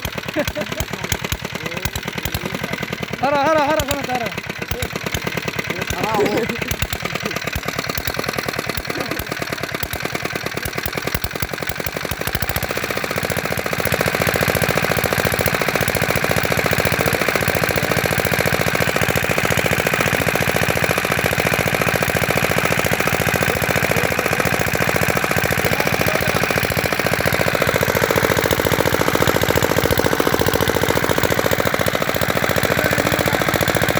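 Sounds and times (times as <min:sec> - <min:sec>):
diesel engine knocking: 0:00.0 - 0:33.9.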